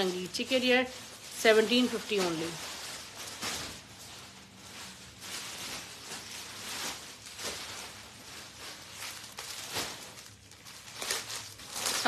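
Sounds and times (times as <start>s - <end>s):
clothes rustling: 0.0s - 12.0s.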